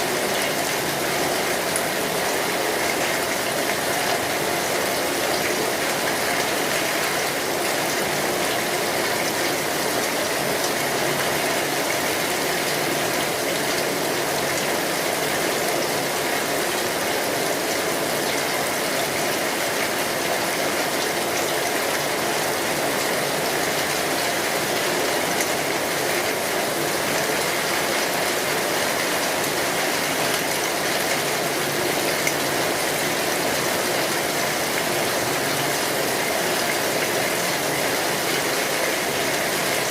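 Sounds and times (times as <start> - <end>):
rain drumming on a metal roof: 0.0 - 39.9.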